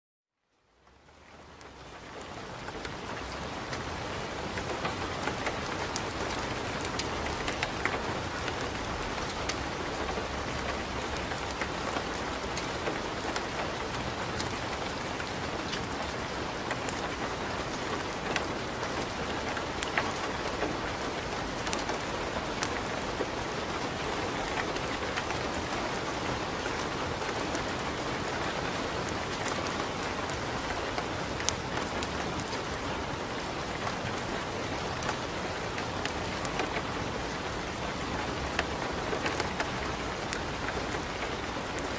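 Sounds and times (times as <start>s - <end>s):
steady rain: 0.3s - 41.9s
wood fire crackling: 1.6s - 37.4s.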